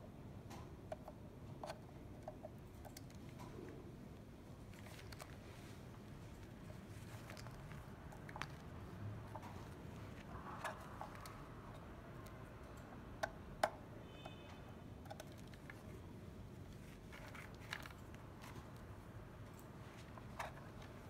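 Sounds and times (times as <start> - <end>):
cables being handled: 0.4 - 21.0.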